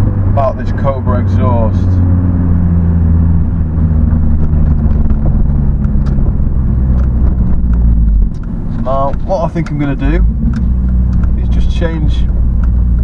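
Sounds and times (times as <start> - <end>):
car engine exhaust drone: 0.0 - 13.0.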